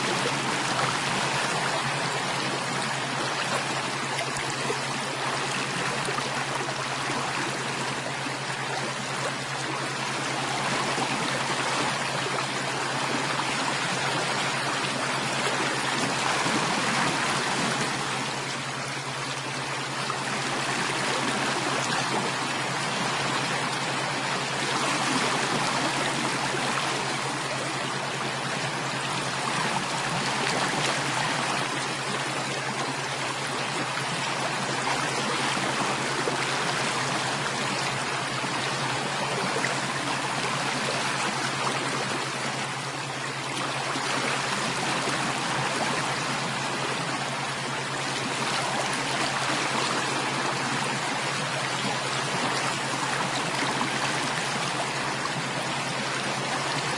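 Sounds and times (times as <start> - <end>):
stream babbling: 0.0 - 56.9.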